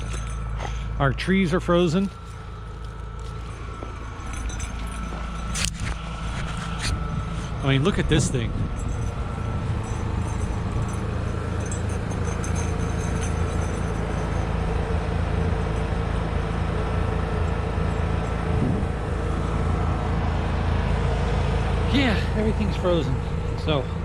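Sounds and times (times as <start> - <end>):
generator engine humming: 0.0 - 24.0.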